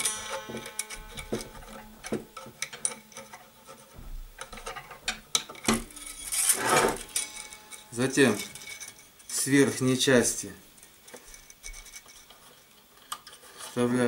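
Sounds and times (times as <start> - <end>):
metallic wire clicks and scrapes: 0.0 - 9.8, 10.8 - 14.0.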